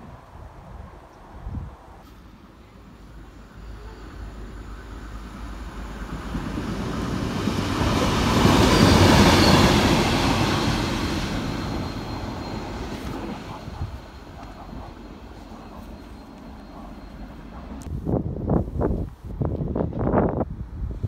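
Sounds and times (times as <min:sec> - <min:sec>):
diesel locomotive passing: 0:00.1 - 0:18.6.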